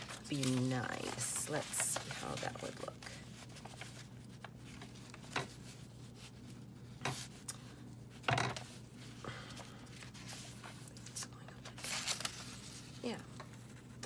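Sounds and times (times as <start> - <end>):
paper rustling: 0.0 - 14.0.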